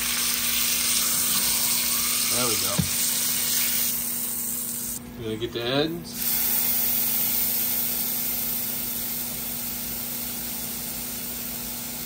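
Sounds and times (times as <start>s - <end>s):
meat sizzling in fat: 0.0s - 5.0s, 6.2s - 12.0s.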